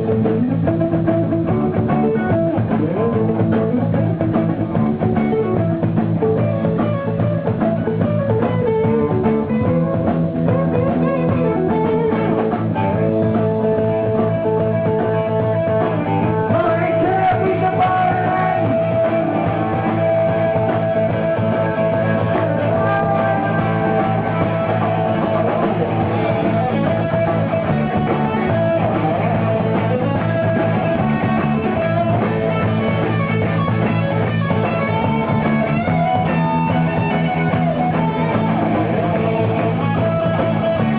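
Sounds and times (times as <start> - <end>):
electric guitar: 0.0 - 40.9
live rock band playing: 0.0 - 40.9.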